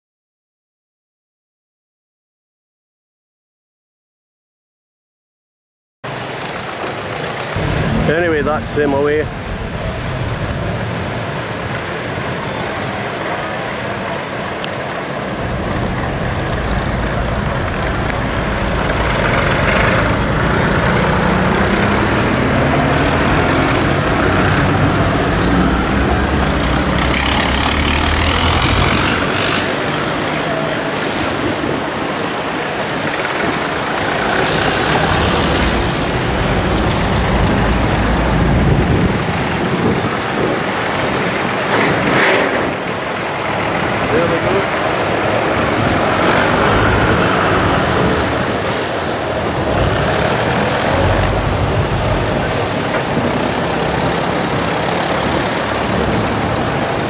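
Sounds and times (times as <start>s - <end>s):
tractor engines running: 6.1s - 57.0s.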